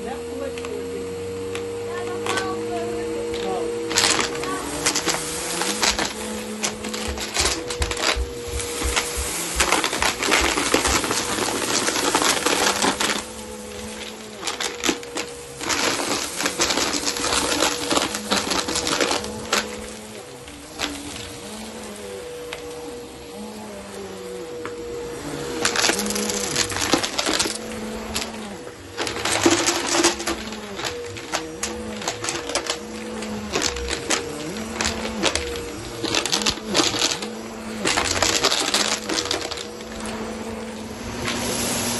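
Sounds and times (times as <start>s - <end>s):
debris rattling through vacuum: 0.0s - 41.9s
vacuum cleaner motor hum: 0.0s - 41.9s.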